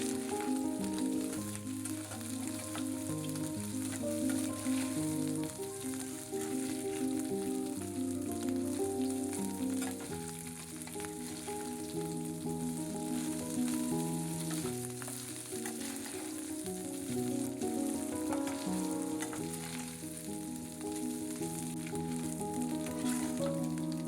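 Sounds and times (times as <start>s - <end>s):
background music of held notes: 0.0s - 24.0s
fish sizzling in hot oil: 0.0s - 24.0s.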